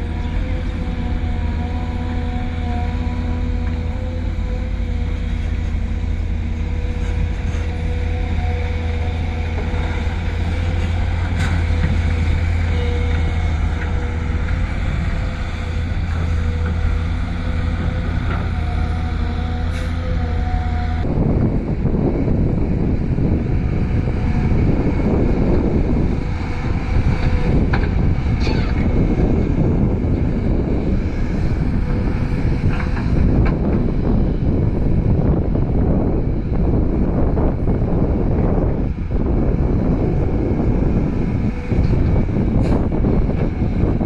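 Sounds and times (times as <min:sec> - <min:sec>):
diesel machinery running: 0:00.0 - 0:44.0.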